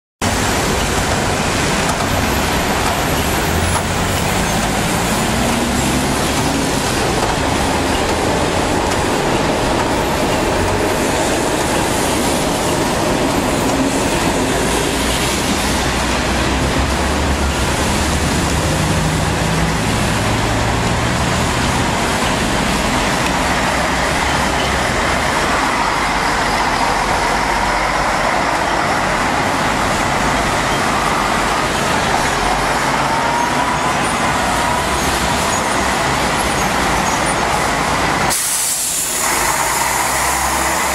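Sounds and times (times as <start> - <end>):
diesel bus engines pulling away: 0.2 - 40.9
tyres hissing on wet road: 0.2 - 40.9.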